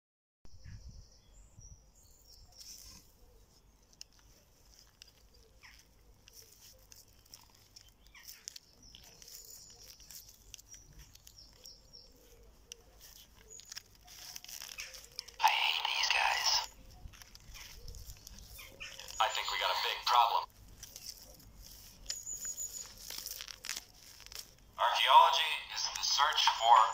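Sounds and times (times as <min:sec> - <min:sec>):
leaves and twigs rustling: 0:02.3 - 0:24.8.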